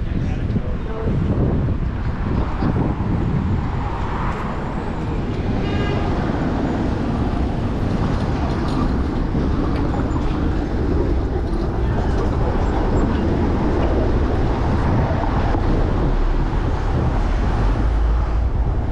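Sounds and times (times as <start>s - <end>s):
city street traffic: 0.0s - 18.9s.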